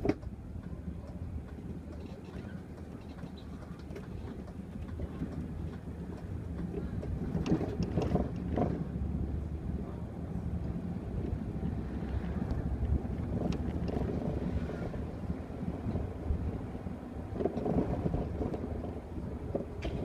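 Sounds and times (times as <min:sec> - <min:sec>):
bus engine drone: 0:00.0 - 0:20.0
road noise: 0:00.0 - 0:20.0.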